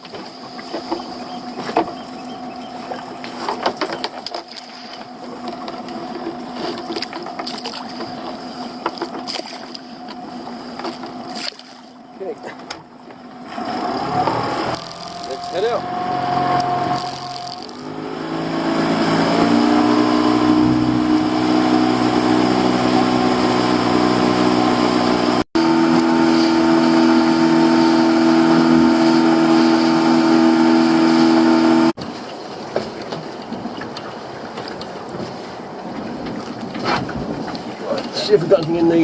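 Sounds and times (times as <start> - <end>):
outboard motor throttling up: 0.0 - 39.0
wind and water rushing: 0.0 - 39.0.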